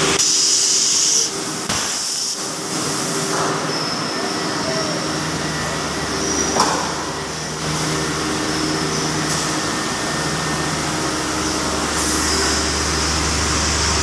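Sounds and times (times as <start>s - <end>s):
hiss: 0.0s - 5.2s, 7.7s - 14.0s
machinery humming: 0.0s - 14.0s.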